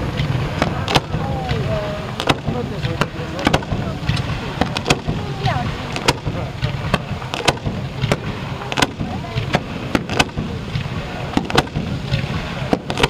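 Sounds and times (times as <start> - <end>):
fireworks bursting with sharp bangs: 0.0 - 13.0
low rumble: 0.0 - 13.0.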